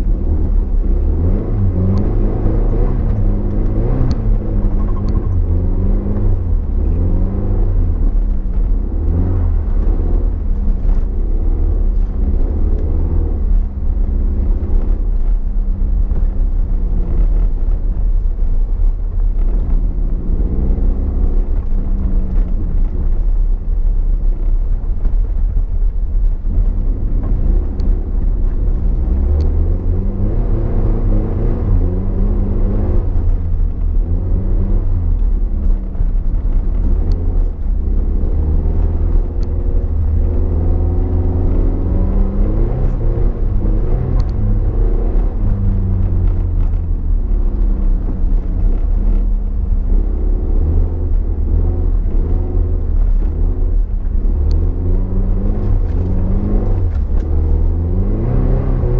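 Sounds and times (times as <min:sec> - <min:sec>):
car engine revving: 0:00.0 - 0:58.9
heavy low rumble: 0:00.0 - 0:58.9.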